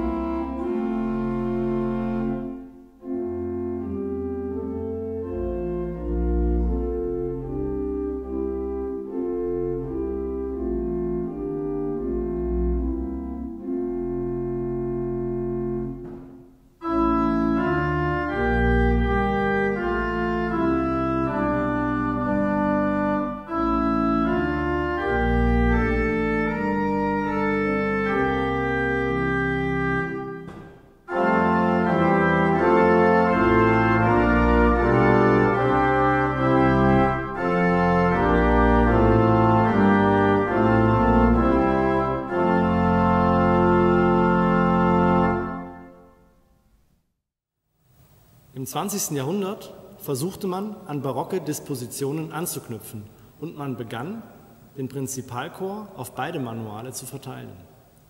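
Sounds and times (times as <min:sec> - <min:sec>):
pipe organ playing: 0:00.0 - 0:46.3, 0:48.6 - 0:57.6.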